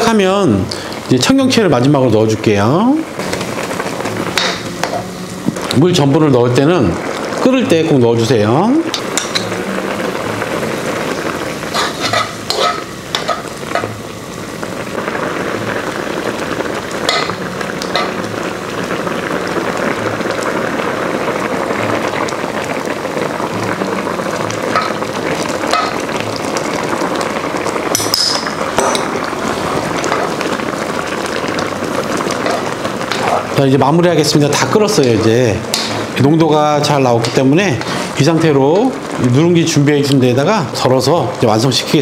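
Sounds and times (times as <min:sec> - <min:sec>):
broth boiling: 0:00.0 - 0:42.0.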